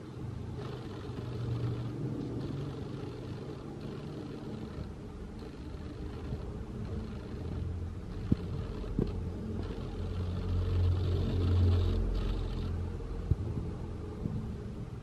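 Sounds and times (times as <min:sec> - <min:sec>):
low rumble and hum: 0:00.0 - 0:15.0.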